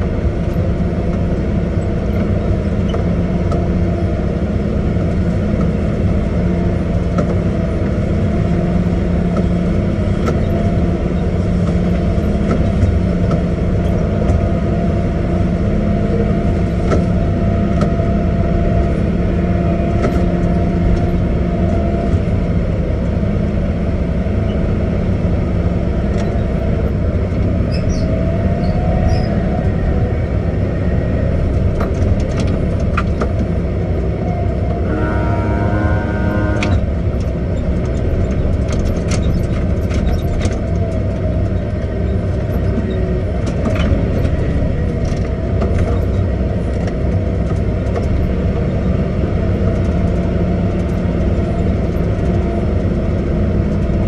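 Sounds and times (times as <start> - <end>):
heavy machine engine drone: 0.0 - 54.0.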